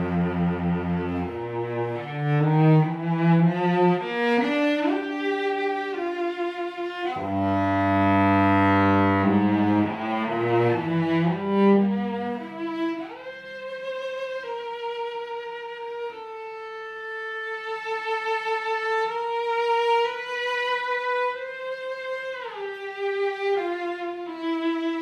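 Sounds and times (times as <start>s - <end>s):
solo cello melody: 0.0s - 25.0s.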